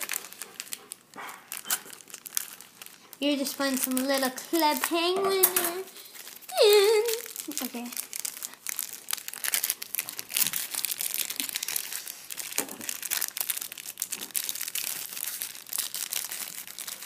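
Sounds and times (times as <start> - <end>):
crinkly wrapper rustling: 0.0 - 17.0.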